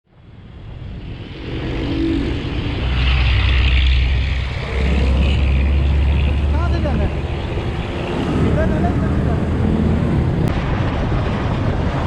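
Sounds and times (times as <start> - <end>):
road noise: 0.1 - 12.0.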